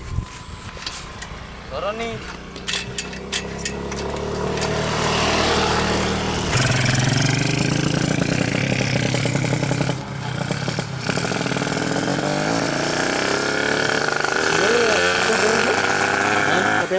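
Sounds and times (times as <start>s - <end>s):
two-stroke motorbike engine revving: 0.4s - 16.9s.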